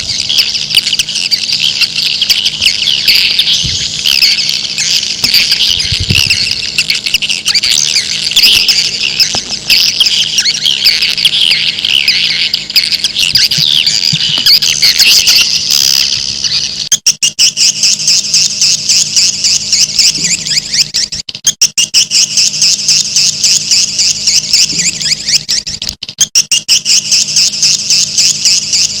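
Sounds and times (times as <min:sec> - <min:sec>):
swiftlets twittering: 0:00.0 - 0:29.0.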